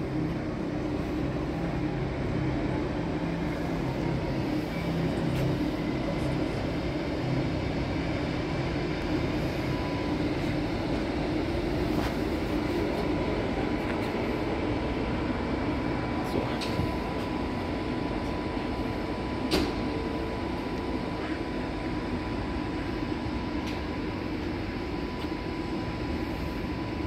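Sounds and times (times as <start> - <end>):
low drone of standing trains: 0.0 - 27.0.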